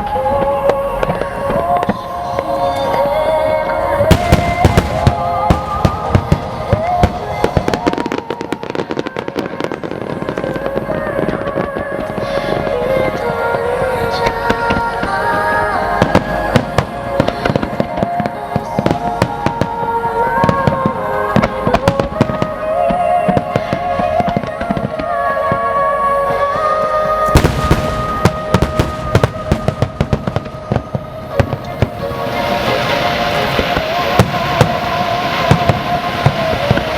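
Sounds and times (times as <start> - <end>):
crackling firework bursts: 0.0 - 36.9
fireworks bangs: 0.0 - 36.9
music over loudspeakers: 0.0 - 36.9.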